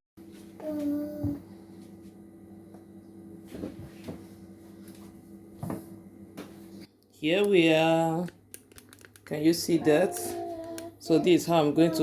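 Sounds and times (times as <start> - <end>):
low electrical hum: 0.2 - 12.0.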